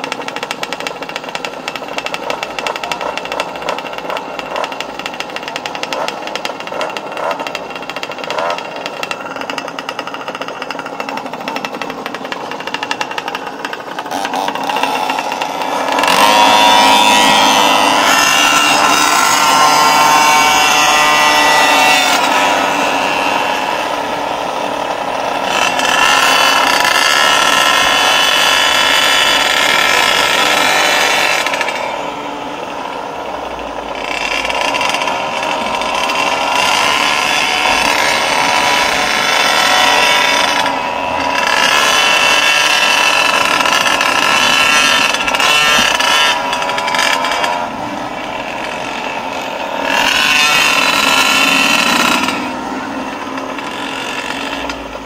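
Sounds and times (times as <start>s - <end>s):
two-stroke scooter engine revving: 0.0s - 55.0s.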